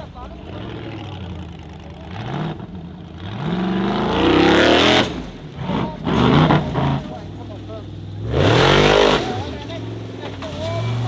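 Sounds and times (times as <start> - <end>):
buggy engine revving: 0.0 - 11.0.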